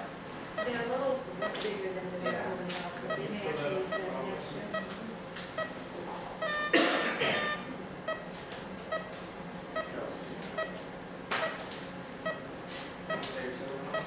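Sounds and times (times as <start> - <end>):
patient monitor beeping: 0.6 - 12.5, 13.1 - 14.0.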